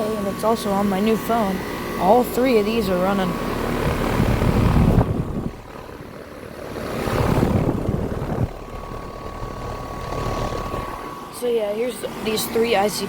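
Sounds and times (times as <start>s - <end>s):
air conditioner fans rushing: 0.0s - 13.0s
thin steady whine: 0.0s - 13.0s.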